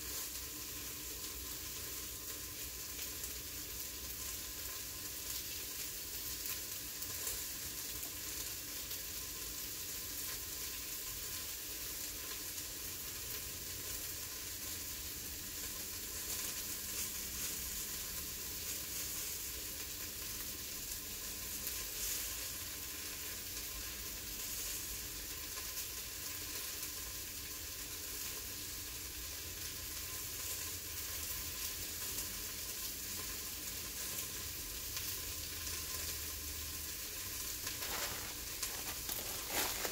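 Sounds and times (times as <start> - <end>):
steam hissing from a vent: 0.0 - 39.9.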